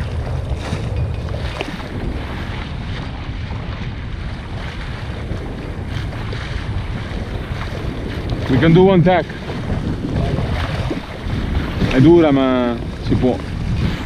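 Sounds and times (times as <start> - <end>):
water rushing along hull: 0.0 - 14.0
wind buffeting microphone: 0.0 - 14.0.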